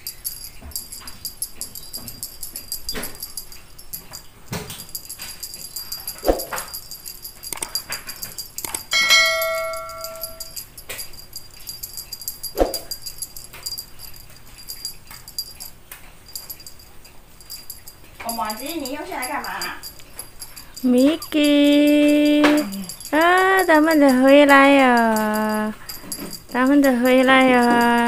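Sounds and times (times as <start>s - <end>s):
clear metallic ring: 0.0s - 28.0s
jingle bell tinkling: 0.0s - 28.0s.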